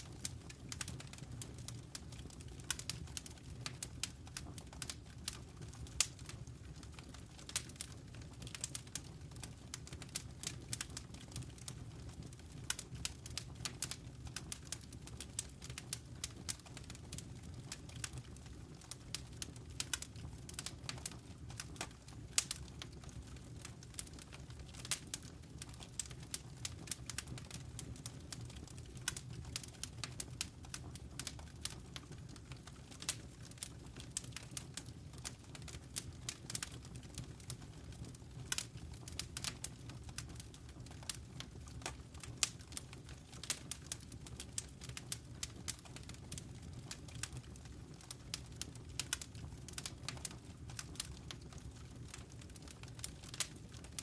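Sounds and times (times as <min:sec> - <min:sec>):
low rumble of burning fire: 0:00.0 - 0:54.0
wood fire crackling: 0:00.0 - 0:54.0.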